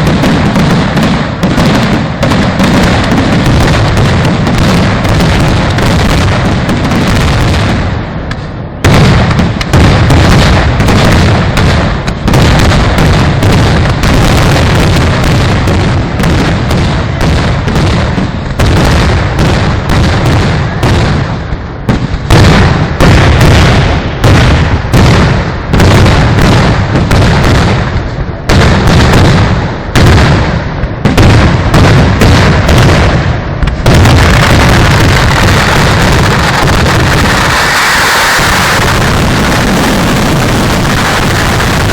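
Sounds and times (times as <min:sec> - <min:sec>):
firework explosions: 0:00.0 - 0:41.9.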